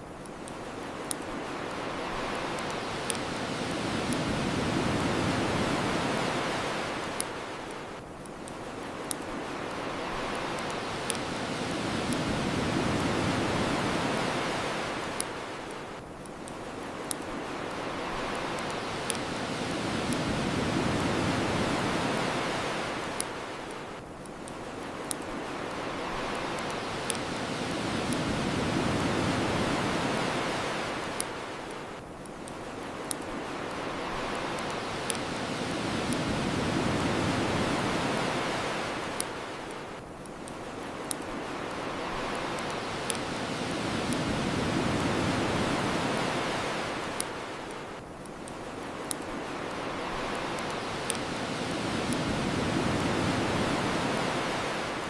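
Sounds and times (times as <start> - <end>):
ocean waves washing ashore: 0.0 - 55.0
bonfire crackling pops: 0.2 - 54.6.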